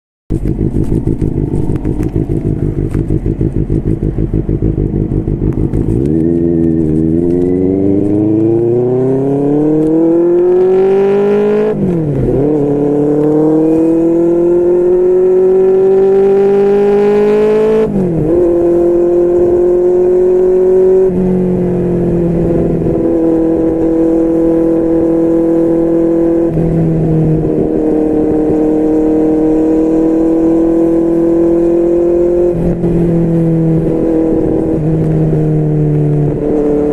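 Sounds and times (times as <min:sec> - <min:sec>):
motorcycle engine accelerating: 0:00.3 - 0:36.9
motorcycle gear upshifts: 0:00.3 - 0:36.9.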